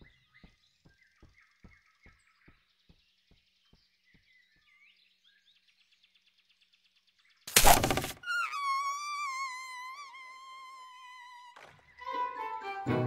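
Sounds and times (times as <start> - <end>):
soft bird chirps: 0.0 - 12.1.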